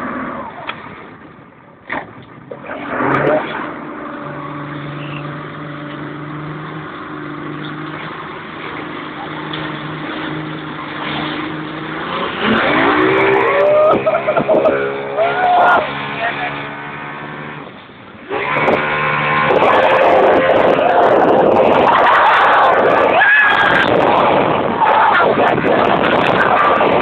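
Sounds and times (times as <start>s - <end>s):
rushing wind and water: 0.0s - 27.0s
speedboat engine revving: 1.9s - 27.0s.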